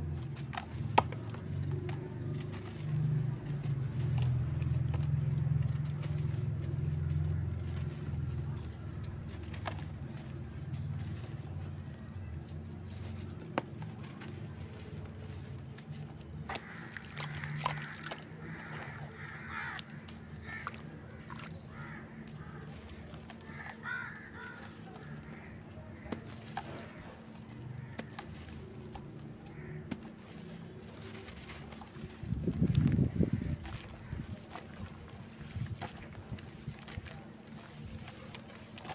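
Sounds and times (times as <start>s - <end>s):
birds calling: 0.0s - 38.9s
hands rubbing dirt in water: 0.0s - 38.9s.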